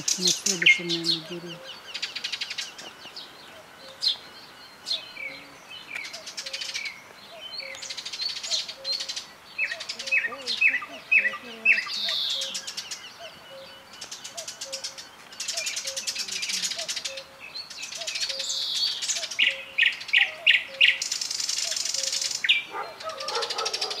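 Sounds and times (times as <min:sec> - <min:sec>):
nightingale singing: 0:00.0 - 0:24.0.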